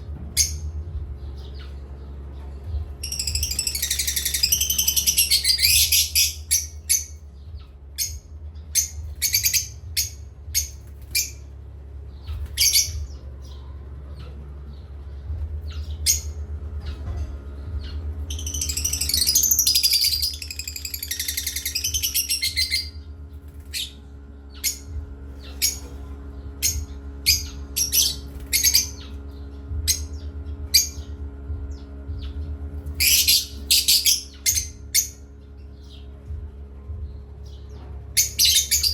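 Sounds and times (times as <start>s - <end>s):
steady low hum: 0.0s - 38.9s
parrots chirping and squawking: 0.2s - 14.8s, 15.6s - 31.2s, 32.1s - 36.1s, 37.4s - 38.9s.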